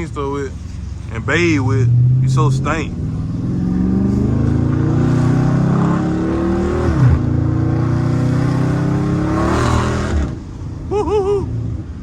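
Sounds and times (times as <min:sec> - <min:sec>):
car engine accelerating hard: 0:01.1 - 0:10.9.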